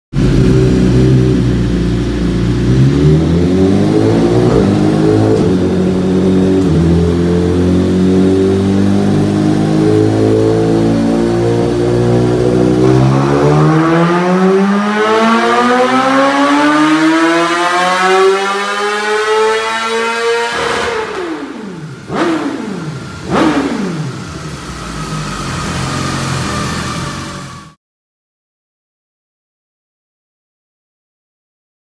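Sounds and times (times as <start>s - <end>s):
motorcycle engine revving on dyno: 0.1s - 27.8s.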